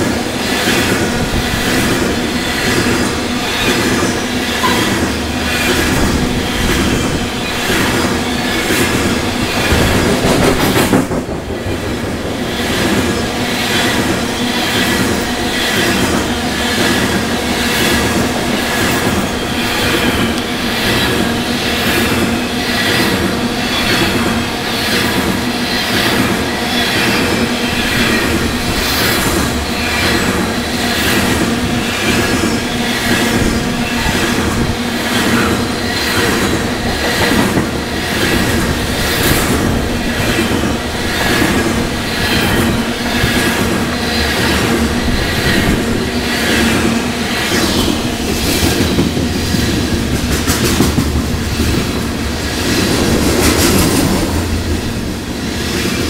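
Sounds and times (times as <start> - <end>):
train wheels clattering over rail joints: 0.0 - 56.0.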